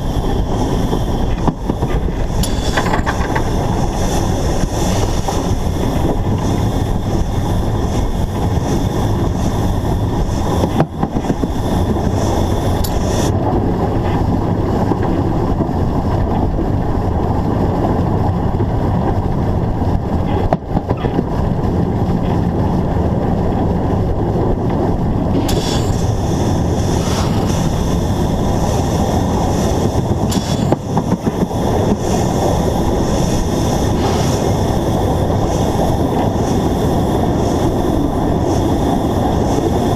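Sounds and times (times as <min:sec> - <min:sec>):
steam train rumbling: 0:00.0 - 0:39.9
wind on microphone: 0:00.0 - 0:39.9.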